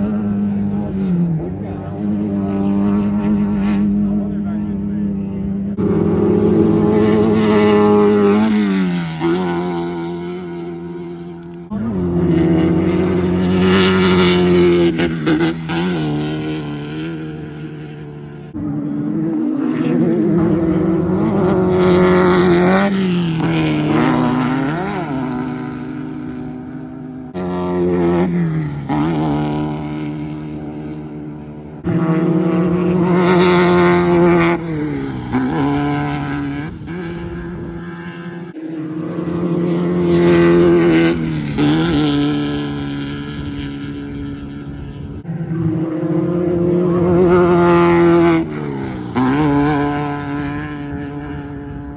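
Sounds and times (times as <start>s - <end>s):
race car engines passing: 0.0s - 51.9s.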